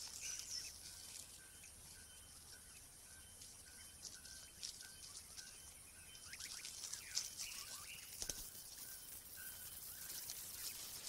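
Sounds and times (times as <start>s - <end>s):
bird chirps: 0.0s - 11.0s
rustling in dry leaves: 0.0s - 11.0s.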